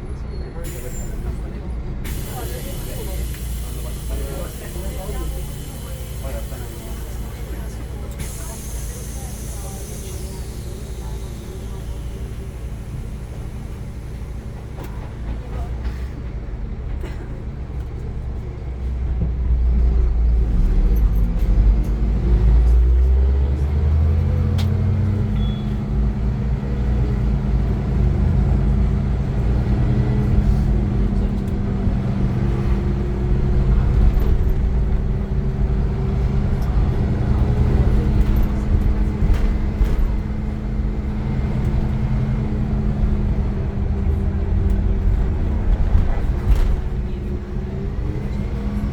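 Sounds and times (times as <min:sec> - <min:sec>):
bus diesel engine accelerating: 0:00.0 - 0:48.9.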